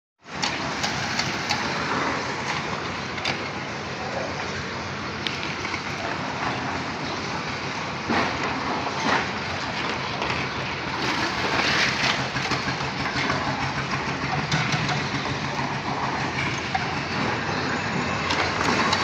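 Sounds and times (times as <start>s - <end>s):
machinery noise: 0.3s - 19.0s.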